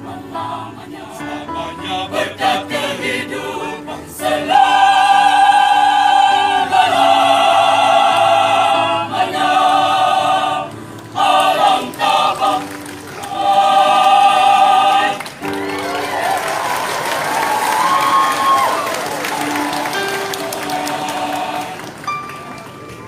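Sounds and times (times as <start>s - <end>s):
mixed choir singing: 0.0s - 22.1s.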